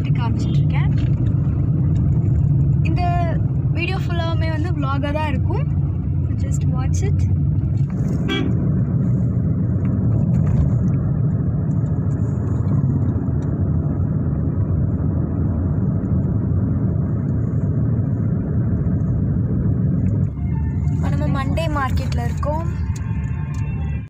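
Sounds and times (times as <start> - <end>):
road and engine rumble in car: 0.0 - 24.0.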